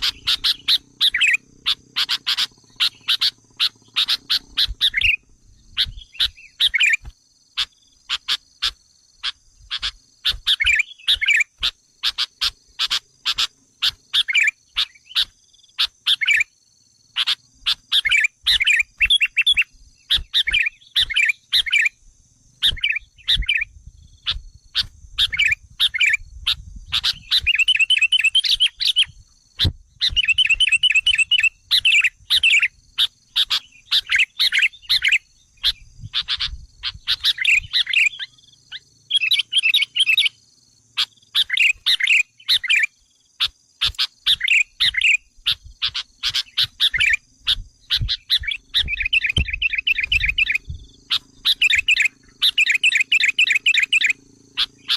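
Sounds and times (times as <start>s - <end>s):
bird trilling: 0.0s - 16.5s, 17.1s - 22.0s, 22.6s - 40.4s, 41.0s - 54.9s
bulbul chattering calls: 0.0s - 16.5s, 17.1s - 22.0s, 22.6s - 54.9s.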